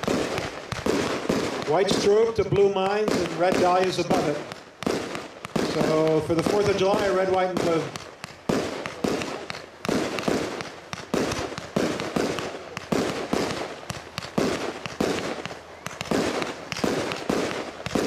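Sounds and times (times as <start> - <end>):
fireworks bangs: 0.0 - 18.0
small firework pops: 0.0 - 18.0.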